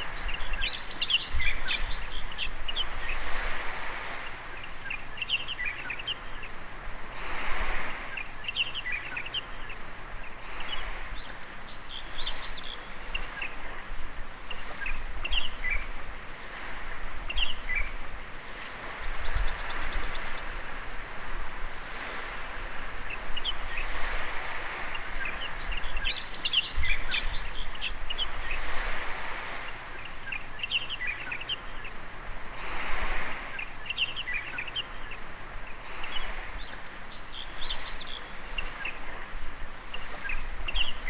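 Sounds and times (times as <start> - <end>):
small birds chirping: 0.0 - 21.2, 21.9 - 41.0
surf washing on shore: 0.0 - 41.0.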